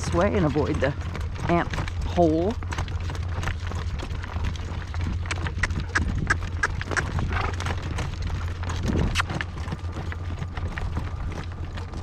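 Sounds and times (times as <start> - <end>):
horse hooves clip-clopping on dirt: 0.0 - 12.0.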